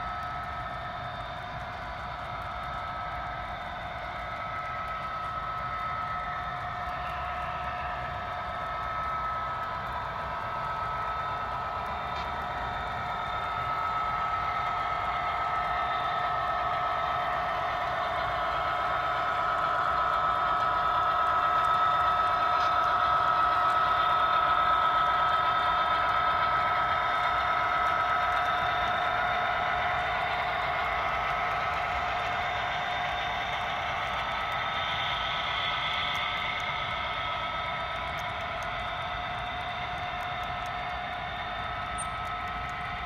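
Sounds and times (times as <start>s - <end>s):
model train running drone: 0.0s - 43.0s.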